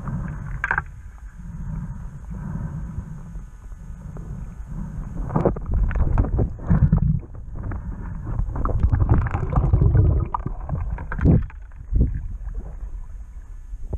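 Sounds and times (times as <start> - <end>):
muffled underwater rumble: 0.0 - 13.9.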